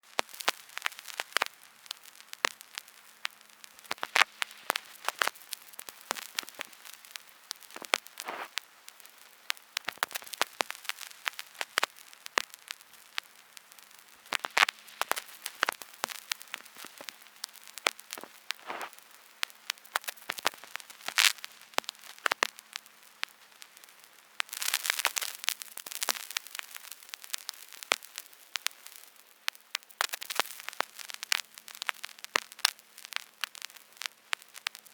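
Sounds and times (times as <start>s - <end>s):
faint hiss: 0.0s - 34.9s
vinyl record clicks and pops: 0.0s - 34.9s.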